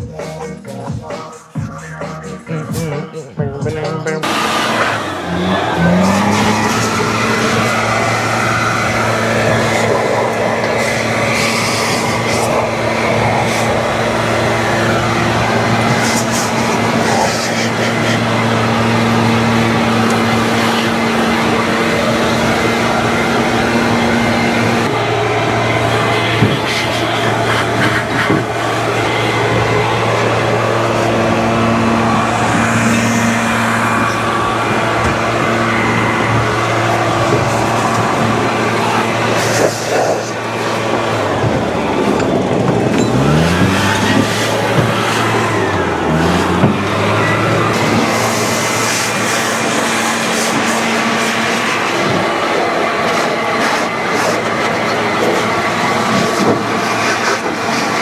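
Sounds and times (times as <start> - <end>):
blower motor running: 0.0 - 58.0.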